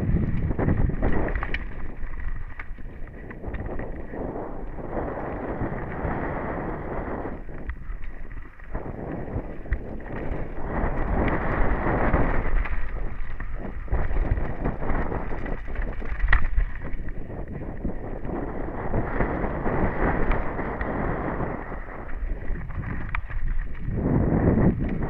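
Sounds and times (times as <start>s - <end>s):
bike rattling and knocking: 0.0s - 6.6s, 7.3s - 25.0s
tyres on loose dirt: 0.0s - 25.0s
wind buffeting microphone: 0.0s - 25.0s.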